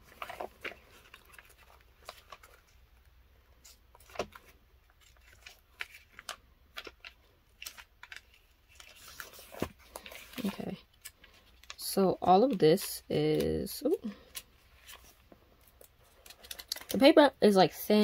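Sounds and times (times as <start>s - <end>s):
pages flicking and rustling: 0.0s - 2.8s, 3.6s - 11.8s, 12.4s - 17.0s.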